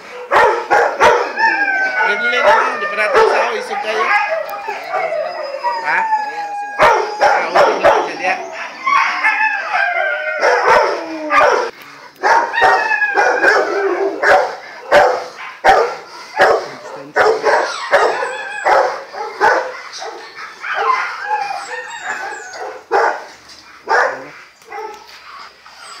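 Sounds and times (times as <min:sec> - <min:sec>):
dogs barking: 0:00.0 - 0:26.0
dogs yipping and whining: 0:00.0 - 0:26.0.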